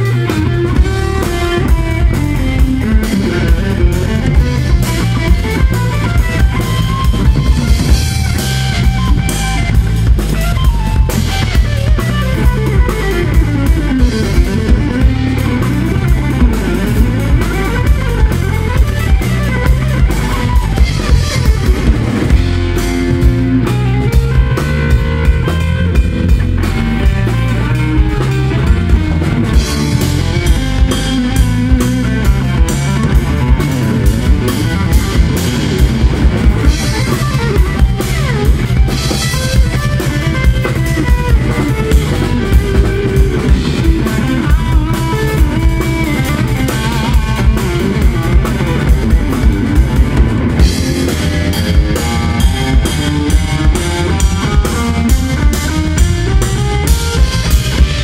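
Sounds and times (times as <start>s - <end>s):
drum kit beat: 0.0s - 58.0s
electric bass: 0.0s - 58.0s
electric guitar lead: 0.0s - 58.0s.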